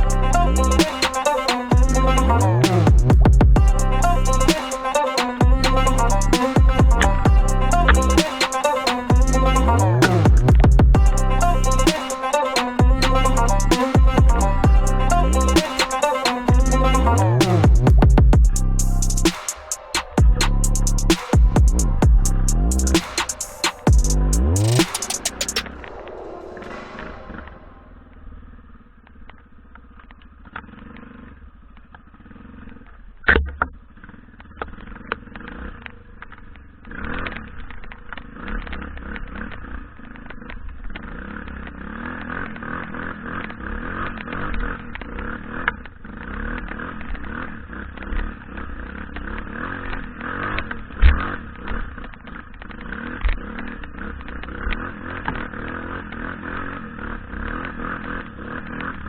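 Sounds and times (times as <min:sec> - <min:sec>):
dirt bike engine revving: 0:00.0 - 0:26.5, 0:34.0 - 0:59.0.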